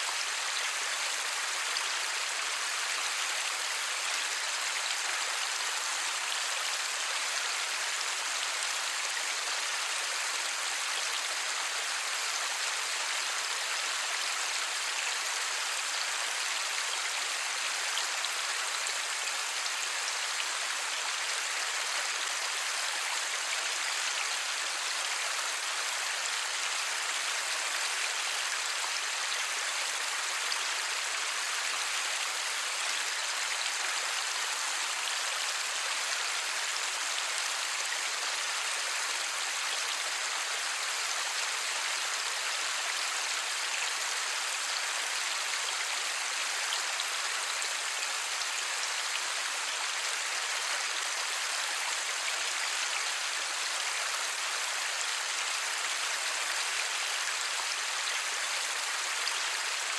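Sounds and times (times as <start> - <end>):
light rain falling: 0.0 - 59.9.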